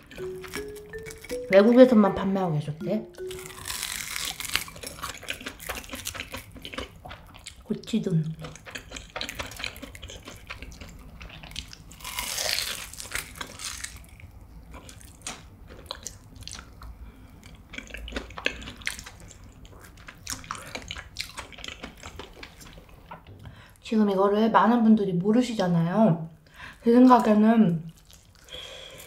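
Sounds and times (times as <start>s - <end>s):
chewing crunchy fried food: 0.0s - 1.5s, 3.2s - 23.3s, 27.1s - 29.0s.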